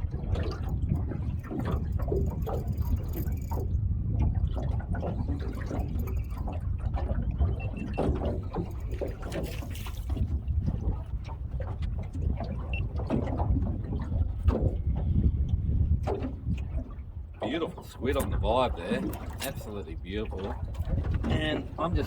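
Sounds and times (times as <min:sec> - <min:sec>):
water splashing around boat: 0:00.0 - 0:22.0.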